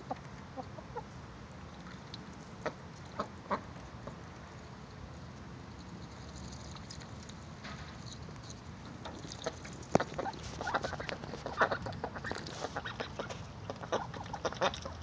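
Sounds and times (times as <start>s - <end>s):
ducks dabbling in water: 0.0s - 15.0s.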